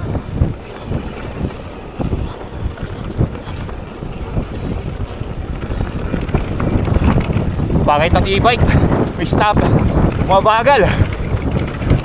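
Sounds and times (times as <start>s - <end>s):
bike knocking over bumps: 0.0s - 12.0s
bike rumbling on rough trail: 0.0s - 12.0s
wind buffeting microphone: 0.0s - 12.0s.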